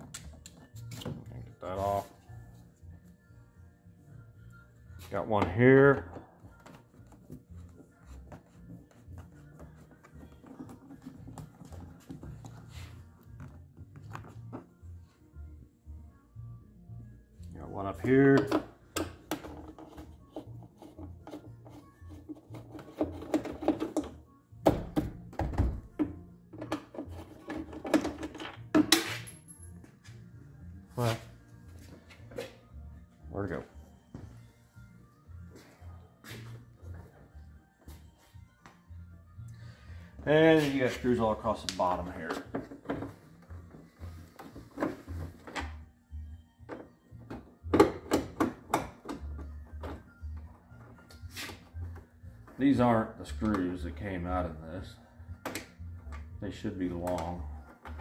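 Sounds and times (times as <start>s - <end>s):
faint music with low beat: 0.0s - 58.0s.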